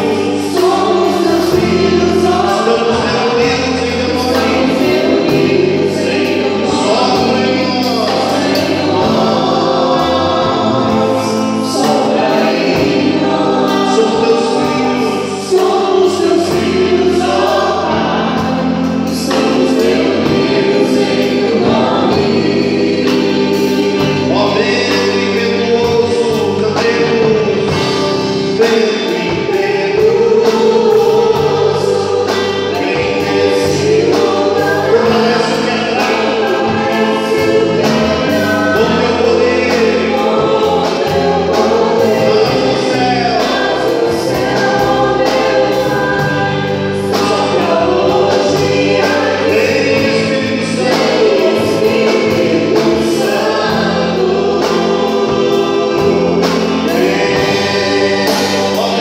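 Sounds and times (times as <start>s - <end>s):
group singing into microphones: 0.0s - 59.0s
guitar: 0.0s - 59.0s
keyboard: 0.0s - 59.0s.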